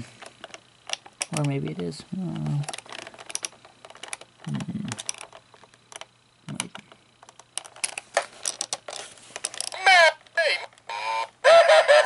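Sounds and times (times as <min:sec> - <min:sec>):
plastic parts clicking and tapping: 0:00.2 - 0:01.6, 0:02.2 - 0:10.9.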